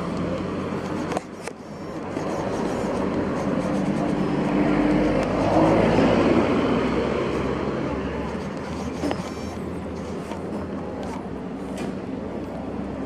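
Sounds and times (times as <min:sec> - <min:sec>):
motor vehicle on road: 0:00.0 - 0:13.0.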